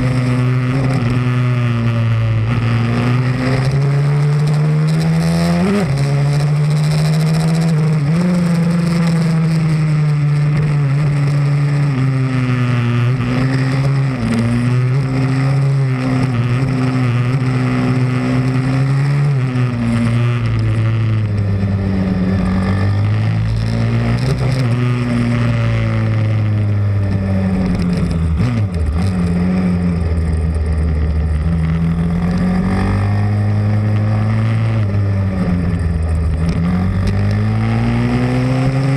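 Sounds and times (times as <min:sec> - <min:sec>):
small motorbike engine revving: 0:00.0 - 0:38.9.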